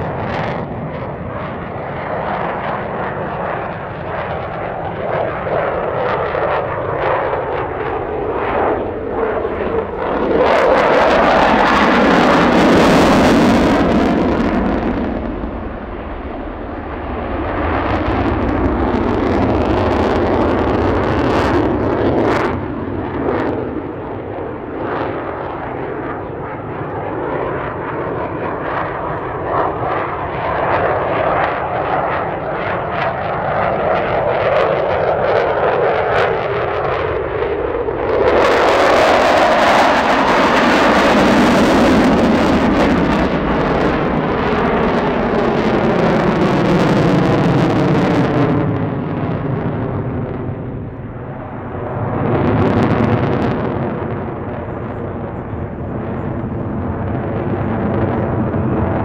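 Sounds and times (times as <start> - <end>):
jet engine in afterburner: 0.0 - 59.0.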